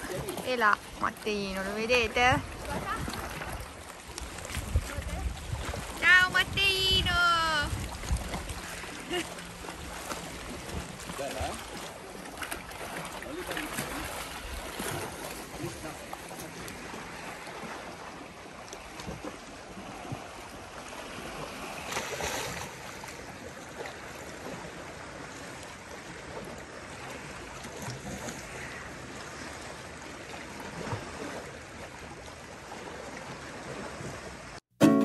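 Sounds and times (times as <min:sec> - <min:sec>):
sea water lapping at shore: 0:00.0 - 0:35.0.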